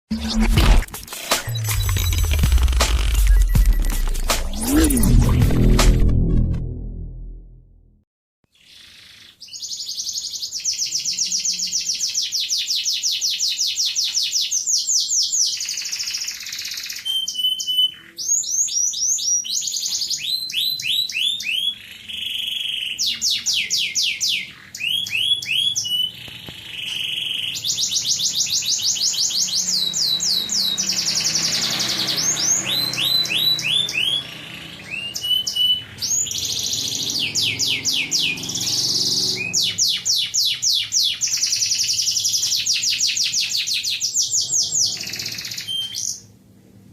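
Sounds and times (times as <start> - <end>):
canary singing: 8.7 - 46.3.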